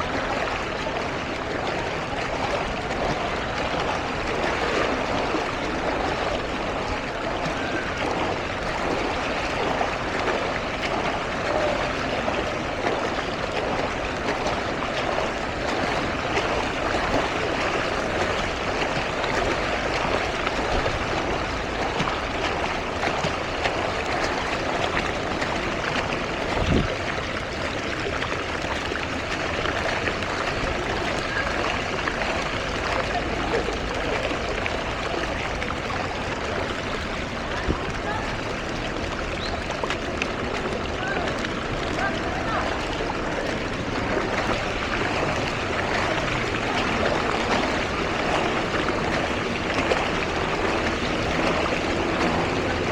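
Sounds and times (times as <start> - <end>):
floodwater rushing and trickling: 0.0 - 52.9.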